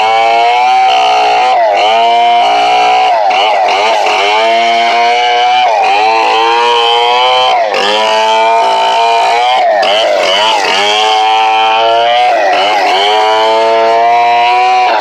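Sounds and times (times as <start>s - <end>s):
chainsaw running hard: 0.0s - 15.0s.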